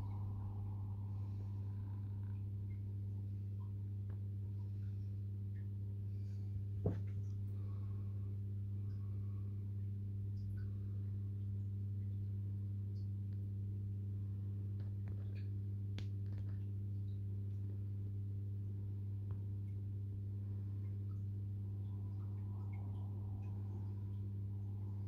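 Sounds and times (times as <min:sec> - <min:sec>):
aquarium pump humming: 0:00.0 - 0:25.0.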